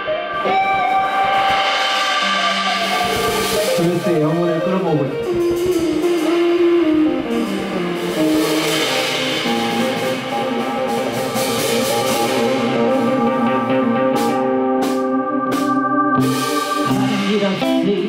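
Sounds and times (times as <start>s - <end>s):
electric guitar: 0.0s - 18.0s
live blues band playing: 0.0s - 18.0s.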